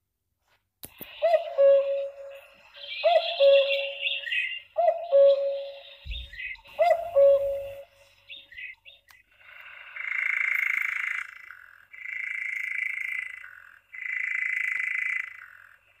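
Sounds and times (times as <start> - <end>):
nightjar churring through small speaker: 1.1 - 16.0.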